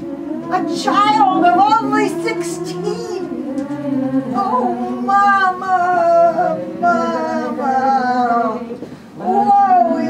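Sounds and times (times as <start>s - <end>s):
person singing long notes: 0.0s - 10.0s.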